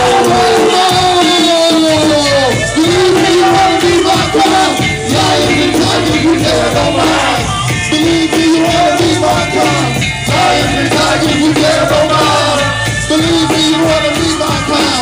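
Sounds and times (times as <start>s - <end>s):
hip-hop beat over a pa: 0.0s - 15.0s
person rapping into a microphone: 0.0s - 15.0s.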